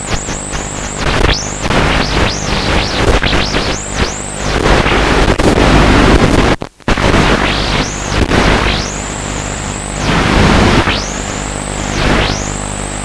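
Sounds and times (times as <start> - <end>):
electric motor whine: 0.0 - 6.4, 7.0 - 13.0.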